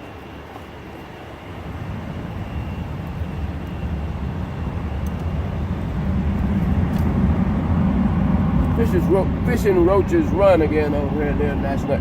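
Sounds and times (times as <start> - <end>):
jet aircraft rumble: 0.0 - 12.0.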